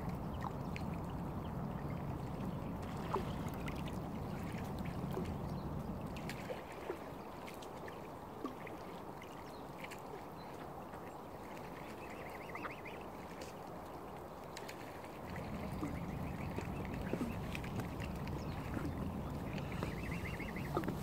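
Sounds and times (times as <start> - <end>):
water lapping at shore: 0.0 - 21.0.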